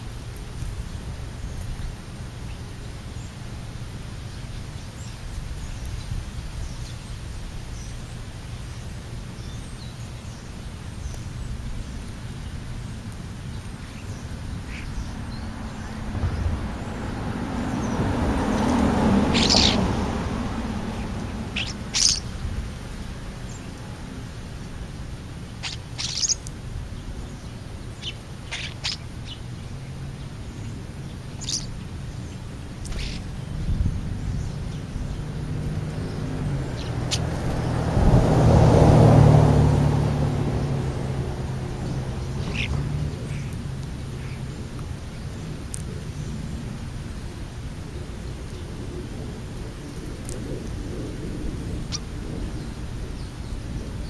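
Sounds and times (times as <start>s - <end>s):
vehicles passing: 0.0s - 54.0s
starlings calling: 0.8s - 38.0s, 40.8s - 48.8s, 51.6s - 54.0s.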